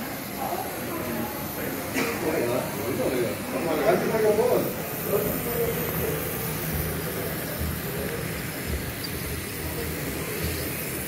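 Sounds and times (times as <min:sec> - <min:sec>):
faint background voices: 0:00.0 - 0:11.0
model trains rumbling: 0:00.0 - 0:11.0.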